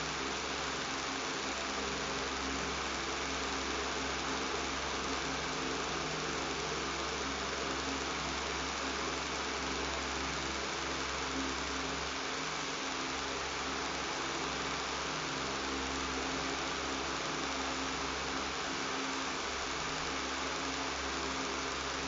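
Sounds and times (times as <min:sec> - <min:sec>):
electric fan running: 0:00.0 - 0:22.0.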